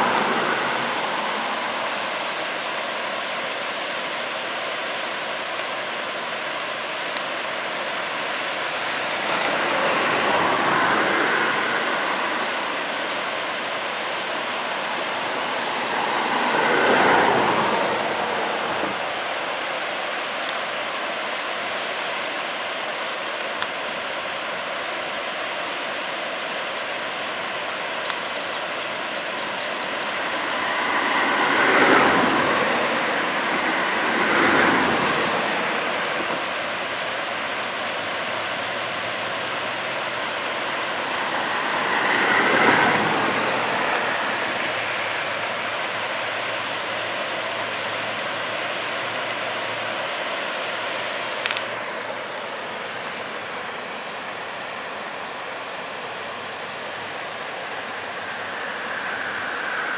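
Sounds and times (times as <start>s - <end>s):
rushing outdoor background noise: 0.0s - 59.9s.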